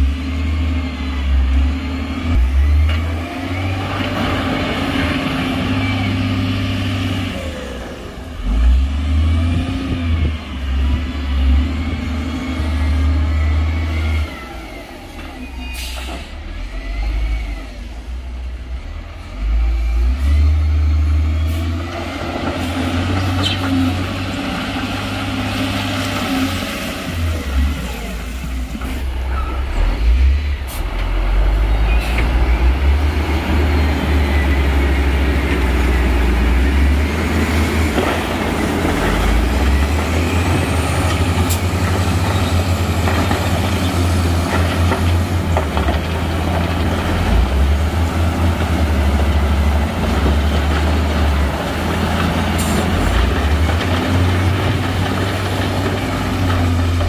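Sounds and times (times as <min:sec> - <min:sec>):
heavy diesel engines rumbling: 0:00.0 - 0:57.0.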